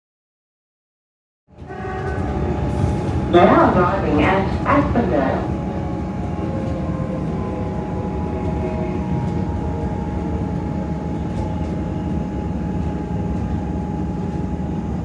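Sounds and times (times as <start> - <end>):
electric train rumble: 1.5 - 15.0.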